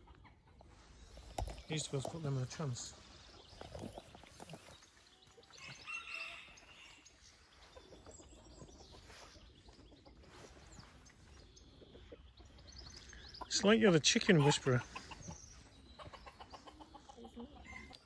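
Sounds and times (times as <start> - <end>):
chickens clucking: 0.0 - 18.0
small birds chirping: 0.0 - 18.0.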